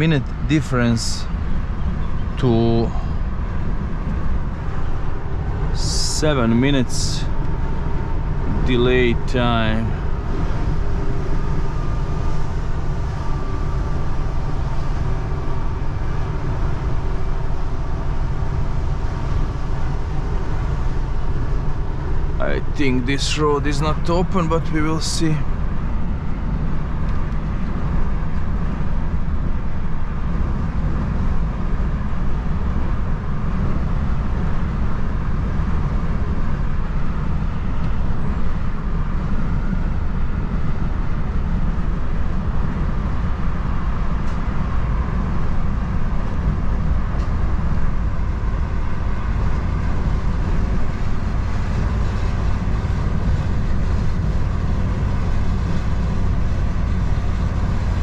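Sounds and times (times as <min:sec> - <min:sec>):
road and tyre noise: 0:00.0 - 0:58.0
truck engine rumble: 0:00.0 - 0:58.0.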